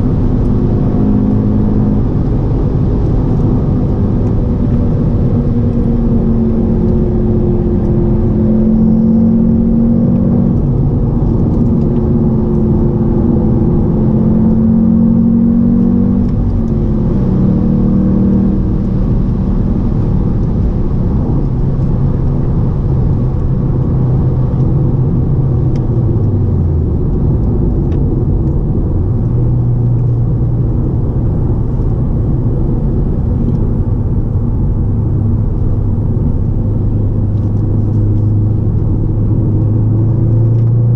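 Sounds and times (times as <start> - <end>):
car engine driving: 0.0 - 40.9
road rumble: 0.0 - 40.9.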